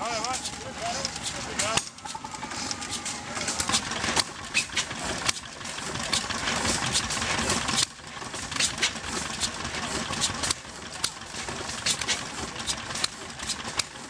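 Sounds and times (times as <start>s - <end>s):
oil engine running: 0.0s - 14.0s
sharp engine clicks: 0.0s - 14.0s.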